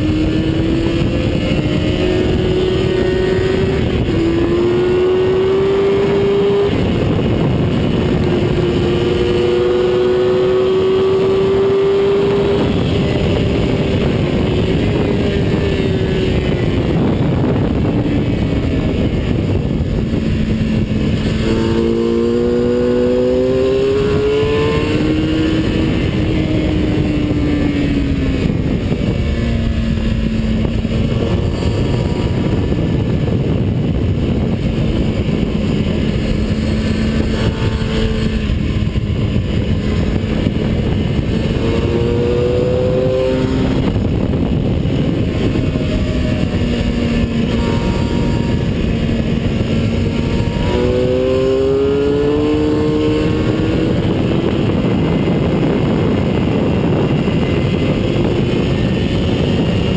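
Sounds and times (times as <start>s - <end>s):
racing engine at speed: 0.0s - 59.9s
wind rush: 0.0s - 59.9s.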